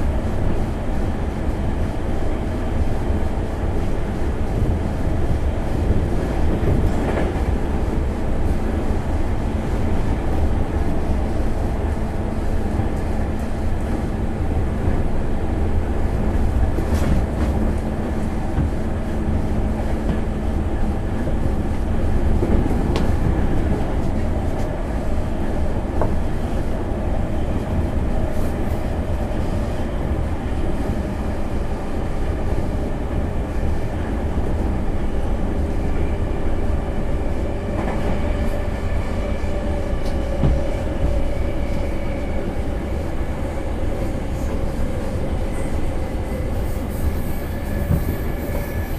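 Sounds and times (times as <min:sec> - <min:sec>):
train motor hum: 0:00.0 - 0:48.9
train wheels rumbling on rail: 0:00.0 - 0:48.9.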